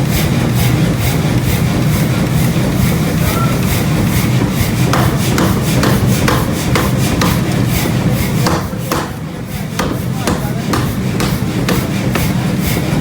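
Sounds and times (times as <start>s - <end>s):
workshop machinery humming: 0.0s - 13.0s.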